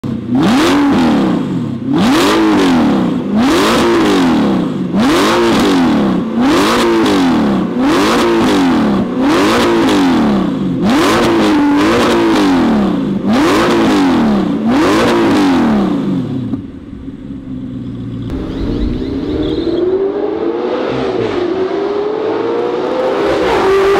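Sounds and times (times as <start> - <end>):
sports car engine revving: 0.0 - 23.9.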